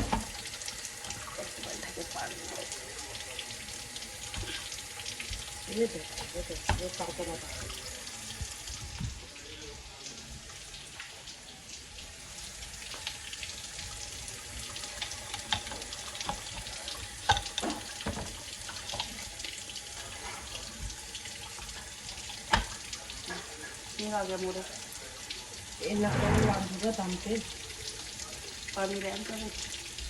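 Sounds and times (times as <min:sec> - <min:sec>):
water running into sink: 0:00.0 - 0:30.0.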